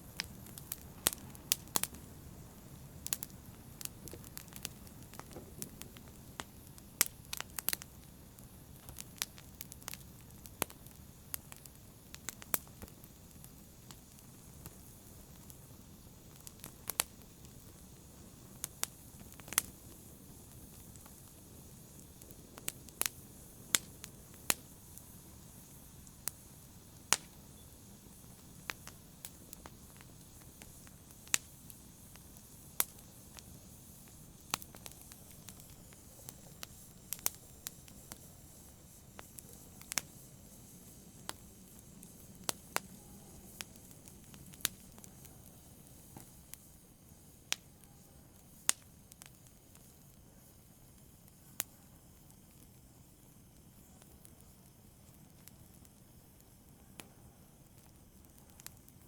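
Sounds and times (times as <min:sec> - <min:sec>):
faint steady hiss: 0:00.0 - 0:59.0
fire crackling and popping: 0:00.0 - 0:59.0.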